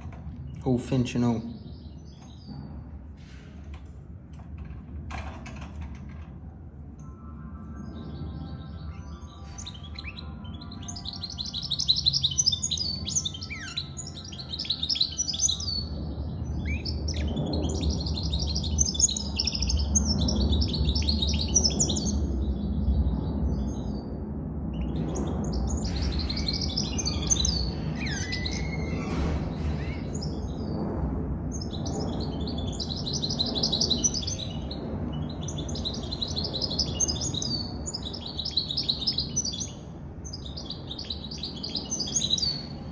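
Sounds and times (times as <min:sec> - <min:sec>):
bird twittering song: 0:00.0 - 0:42.9.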